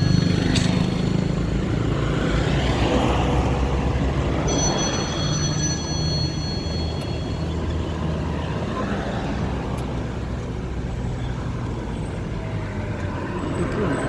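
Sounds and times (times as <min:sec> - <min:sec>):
tyre and traffic noise: 0:00.0 - 0:14.0.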